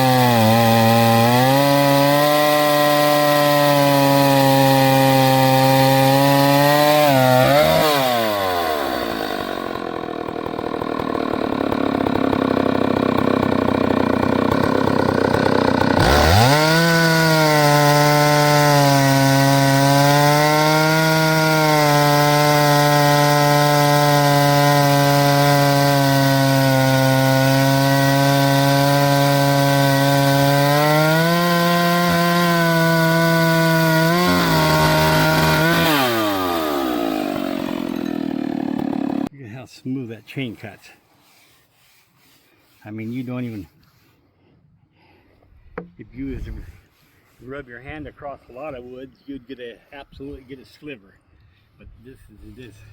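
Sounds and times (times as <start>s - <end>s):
chainsaw cutting log: 0.0s - 39.3s, 40.6s - 44.2s, 45.1s - 47.5s.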